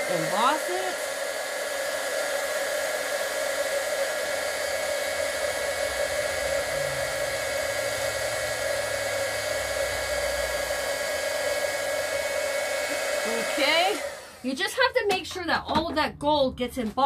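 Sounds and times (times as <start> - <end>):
heat gun blowing hot air: 0.0 - 14.9.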